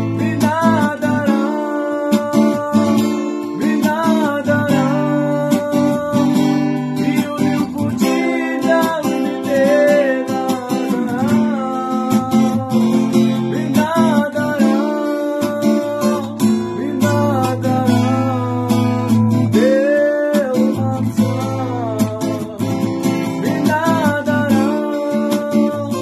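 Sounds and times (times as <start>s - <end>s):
man singing: 0.0s - 26.0s
strummed acoustic guitar: 0.0s - 26.0s.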